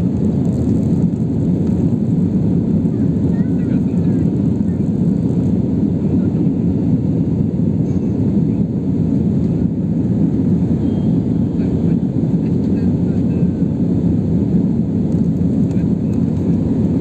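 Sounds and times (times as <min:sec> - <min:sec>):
jet engine rumble in cabin: 0:00.0 - 0:17.0.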